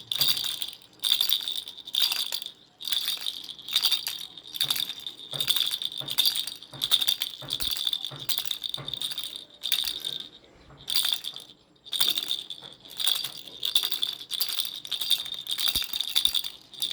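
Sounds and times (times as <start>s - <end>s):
baby rattle shaken: 0.0s - 16.9s.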